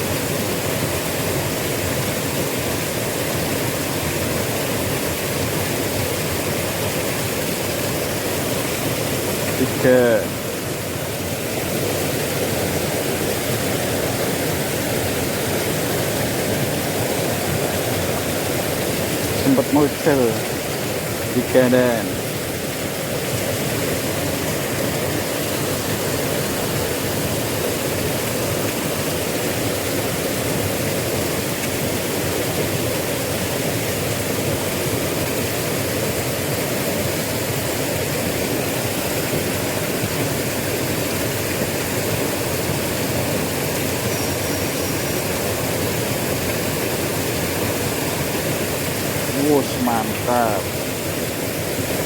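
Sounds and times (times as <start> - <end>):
small river flowing: 0.0 - 52.0.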